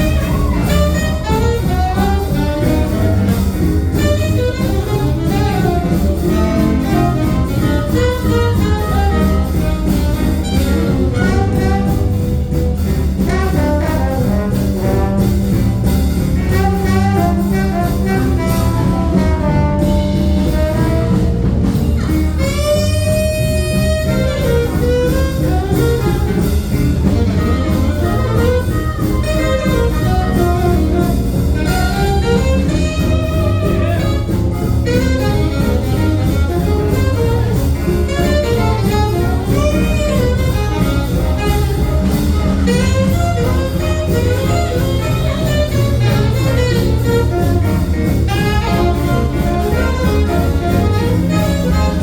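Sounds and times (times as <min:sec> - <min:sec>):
jazz band playing swing: 0:00.0 - 0:52.0.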